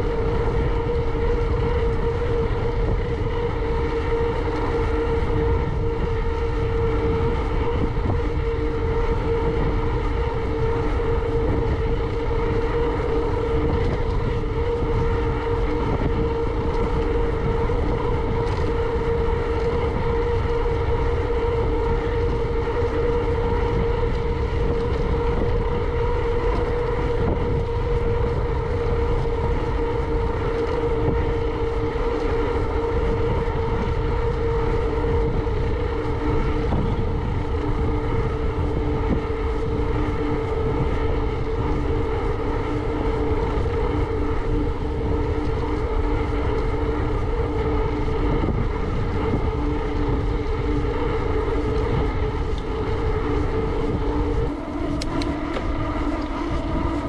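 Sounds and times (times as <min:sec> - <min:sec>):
low hum: 0:00.0 - 0:57.0
steady mid-pitched hum: 0:00.0 - 0:57.0
wind rushing over microphone: 0:00.0 - 0:57.0.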